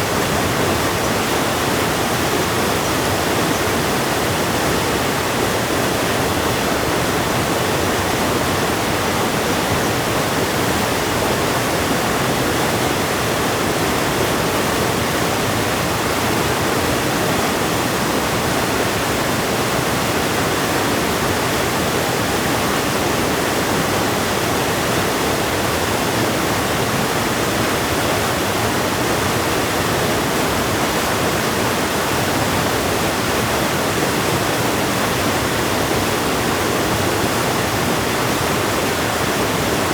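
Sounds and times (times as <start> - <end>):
fast-flowing river rushing: 0.0 - 39.9.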